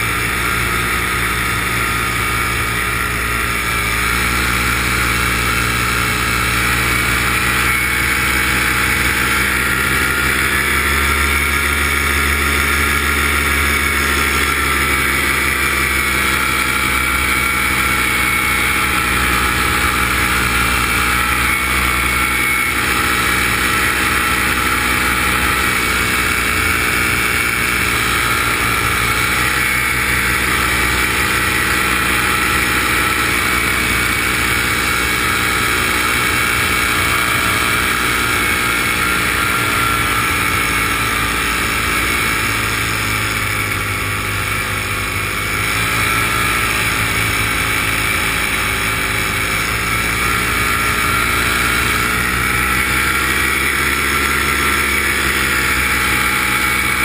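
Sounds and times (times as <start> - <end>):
aircraft motor and propeller: 0.0 - 57.0.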